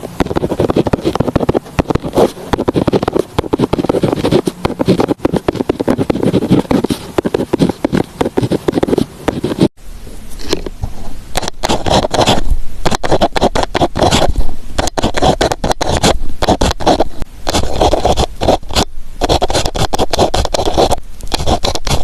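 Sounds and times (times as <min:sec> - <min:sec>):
pen scratching on paper: 0:00.0 - 0:09.7, 0:11.4 - 0:22.0.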